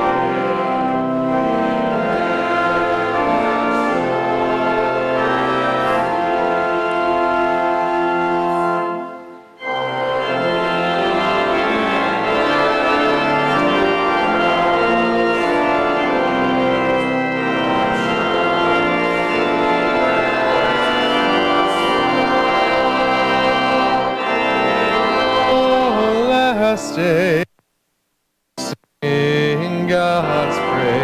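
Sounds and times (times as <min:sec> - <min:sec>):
church organ playing a hymn: 0:00.0 - 0:27.5, 0:28.6 - 0:31.0.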